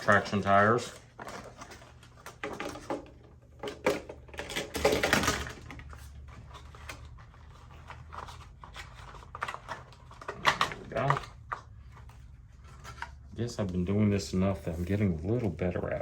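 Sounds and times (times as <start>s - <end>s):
packaging clicks and rustles: 0.0s - 13.8s.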